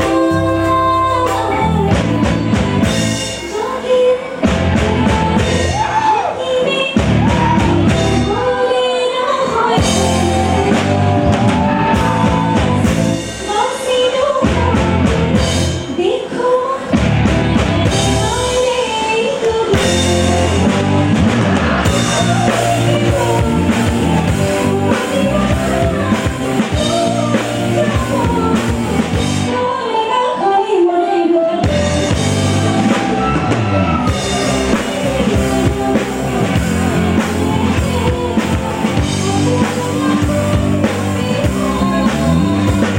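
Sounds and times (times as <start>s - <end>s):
woman singing: 0.0s - 21.0s, 21.8s - 42.9s
band playing: 0.0s - 30.6s, 31.2s - 42.9s.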